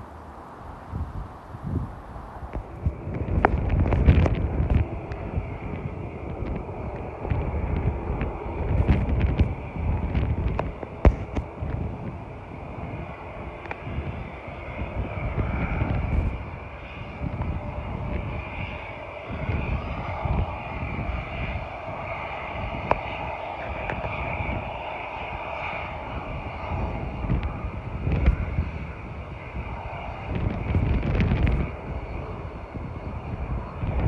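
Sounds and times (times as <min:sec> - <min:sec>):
airliner engines droning: 0:00.0 - 0:34.0
wind buffeting microphone: 0:00.0 - 0:34.0.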